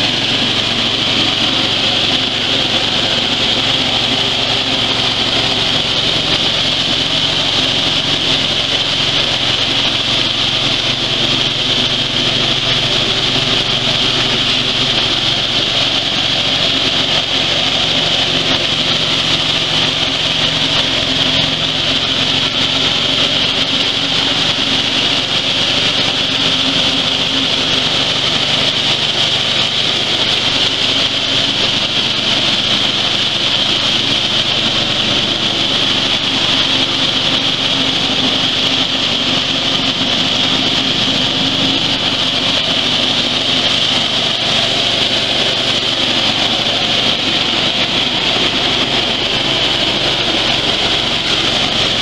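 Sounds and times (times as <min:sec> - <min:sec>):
engine drone: 0:00.0 - 0:52.0.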